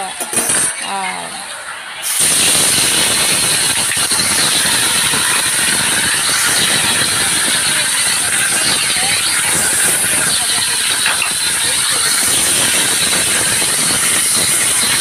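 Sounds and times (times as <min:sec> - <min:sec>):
fish sizzling in hot oil: 0:01.7 - 0:15.0.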